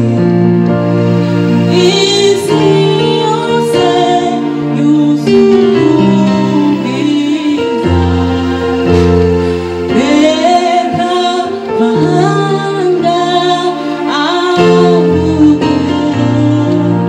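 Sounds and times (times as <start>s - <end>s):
woman singing into a microphone: 0.0s - 0.8s, 1.6s - 17.0s
instrumental backing chords: 0.0s - 17.0s.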